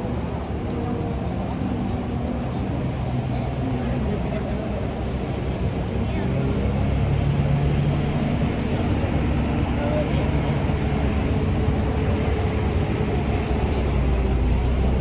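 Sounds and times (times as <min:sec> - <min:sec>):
people chatting: 0:00.0 - 0:07.2, 0:08.0 - 0:15.0
bus engine idling: 0:00.0 - 0:15.0
cars driving past: 0:00.0 - 0:15.0.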